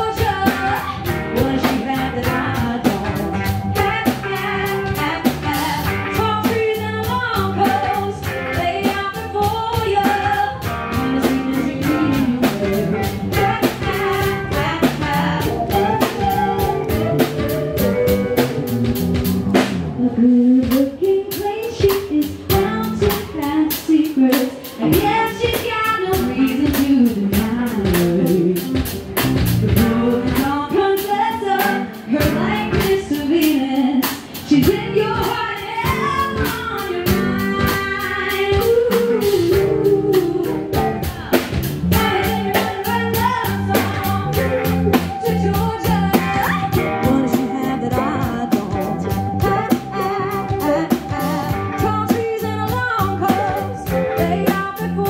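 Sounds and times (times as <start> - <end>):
bass guitar: 0.0 - 55.0
drum kit: 0.0 - 55.0
electric guitar: 0.0 - 55.0
woman singing lead: 0.0 - 55.0.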